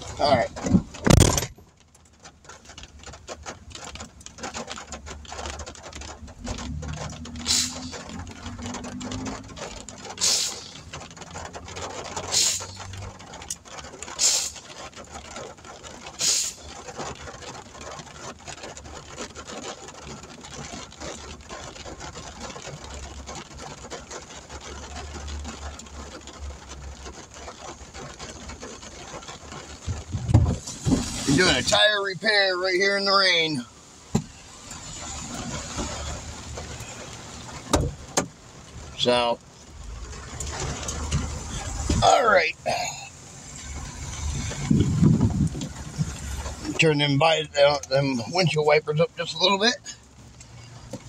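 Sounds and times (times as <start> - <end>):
heavy rain on a vehicle roof: 0.0 - 51.0.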